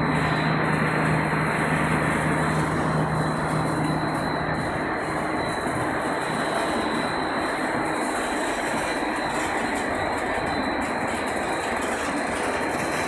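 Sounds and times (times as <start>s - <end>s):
production line machinery drone: 0.0s - 13.0s.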